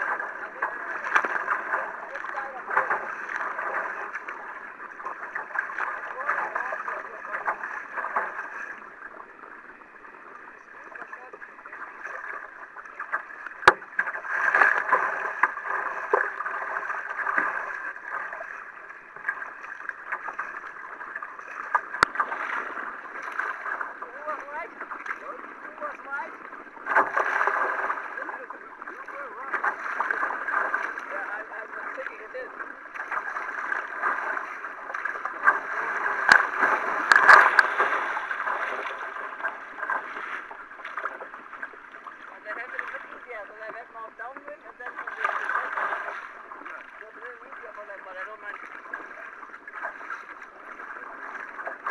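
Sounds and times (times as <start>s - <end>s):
water splashing against kayak hull: 0.0s - 51.9s.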